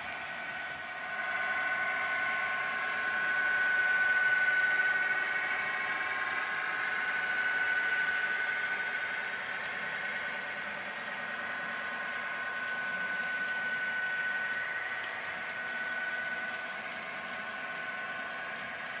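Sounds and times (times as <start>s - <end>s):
model train high whine: 0.0s - 19.0s
model train wheels rolling: 0.0s - 19.0s.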